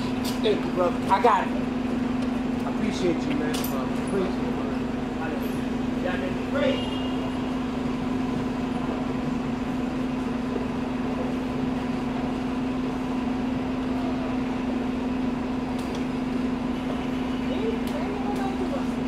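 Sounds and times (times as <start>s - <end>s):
bus engine idling: 0.0s - 19.0s.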